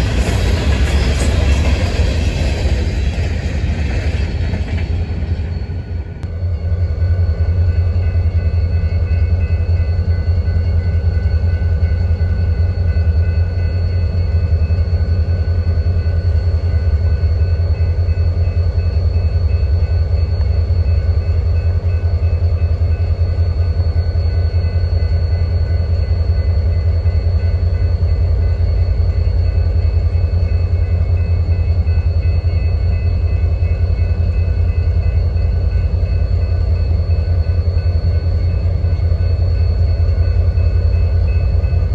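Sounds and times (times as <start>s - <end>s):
train passing rumble: 0.0s - 41.9s.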